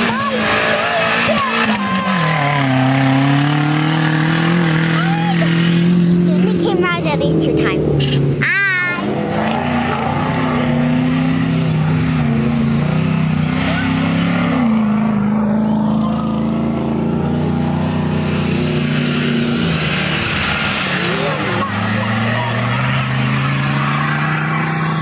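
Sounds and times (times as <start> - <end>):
truck engine running hard: 0.0 - 25.0.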